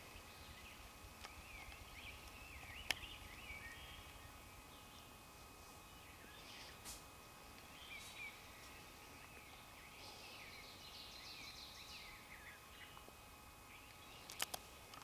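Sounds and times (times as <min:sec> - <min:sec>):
songbirds chirping and singing: 0:00.0 - 0:15.0
steady background hiss: 0:00.0 - 0:15.0.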